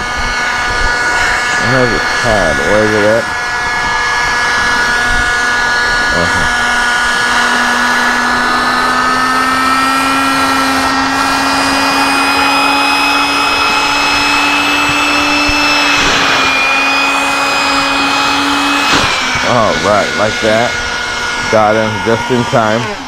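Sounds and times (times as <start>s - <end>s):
electric air pump whine: 0.0s - 23.0s.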